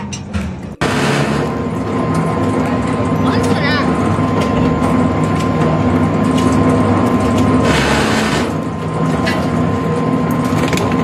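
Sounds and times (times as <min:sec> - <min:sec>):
shredder motor hum: 0:00.8 - 0:11.0.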